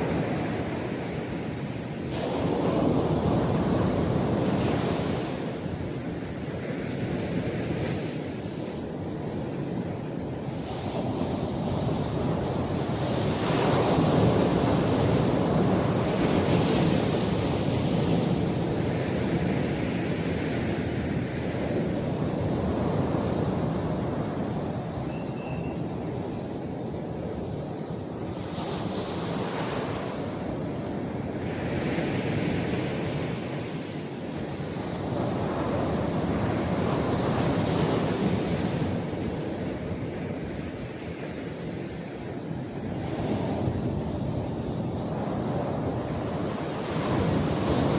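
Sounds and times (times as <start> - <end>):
wind rumbling on microphone: 0.0 - 47.9.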